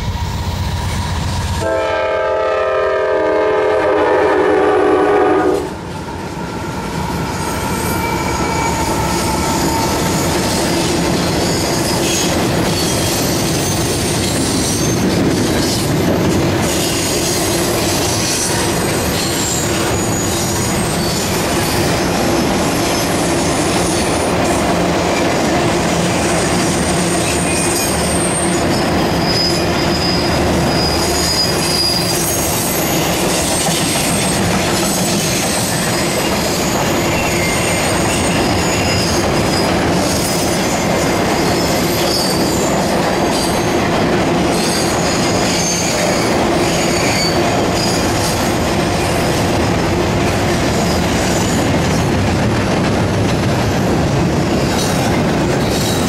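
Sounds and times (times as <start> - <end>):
train wheels squealing: 0.0 - 1.6, 6.5 - 24.5, 26.6 - 43.8, 44.4 - 49.7, 50.7 - 52.0, 54.6 - 56.0
train cars rumbling past: 0.0 - 56.0.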